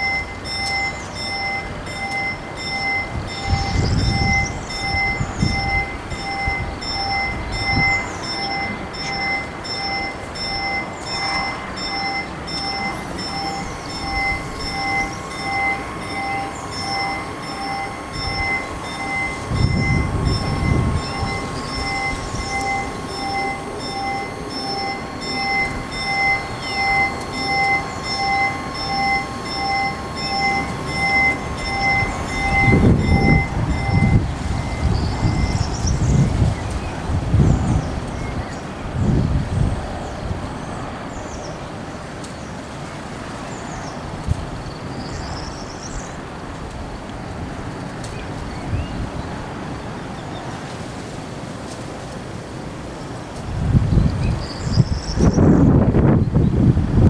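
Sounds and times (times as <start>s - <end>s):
level crossing warning bell: 0.0s - 57.0s.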